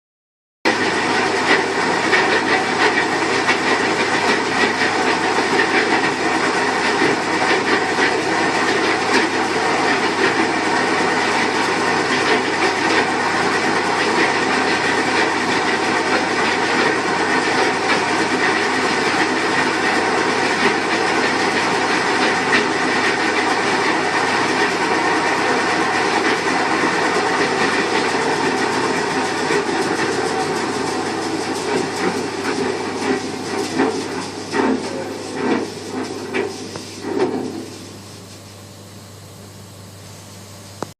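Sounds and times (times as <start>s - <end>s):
washing machine mechanical noise: 0.7s - 40.9s.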